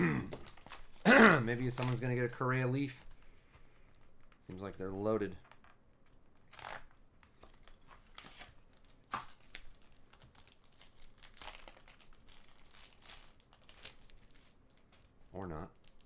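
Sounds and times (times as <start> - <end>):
plastic wrapper crinkling: 0.3 - 2.6, 5.4 - 16.0.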